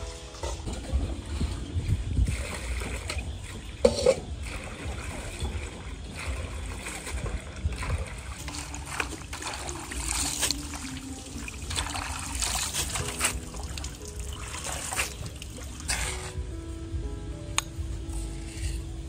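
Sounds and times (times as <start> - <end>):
water splashing and trickling: 0.0 - 16.7
hands washing greens in water: 0.6 - 16.4.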